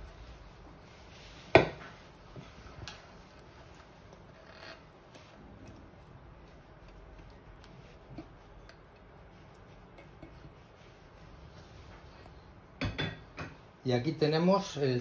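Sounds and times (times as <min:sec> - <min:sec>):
spatula scraping a saucepan: 0:00.0 - 0:12.6.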